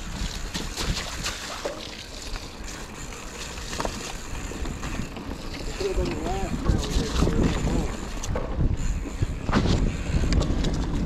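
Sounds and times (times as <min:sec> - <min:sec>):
bike clicks and rattles: 0:00.0 - 0:11.0
bike tyres on dirt trail: 0:00.0 - 0:11.0.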